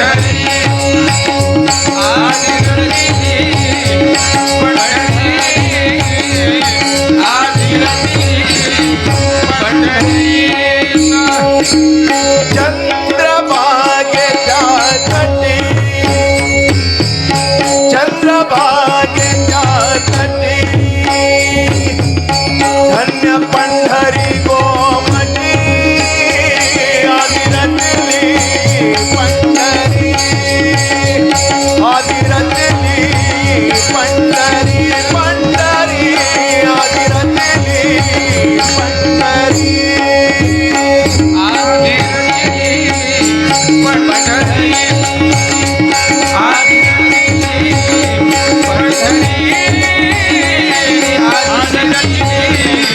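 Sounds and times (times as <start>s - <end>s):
fast hand drum rhythm: 0.0s - 13.2s, 14.1s - 52.9s.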